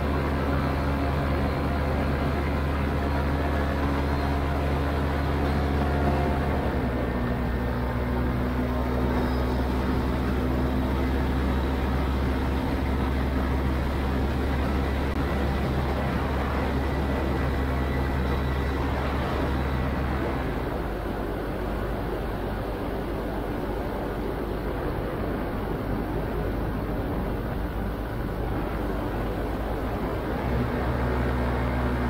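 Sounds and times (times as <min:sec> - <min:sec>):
paramotor engine running: 0:00.0 - 0:32.0.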